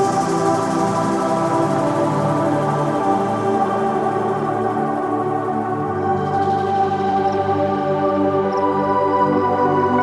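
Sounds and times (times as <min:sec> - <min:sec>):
electronic ambient music: 0:00.0 - 0:10.0.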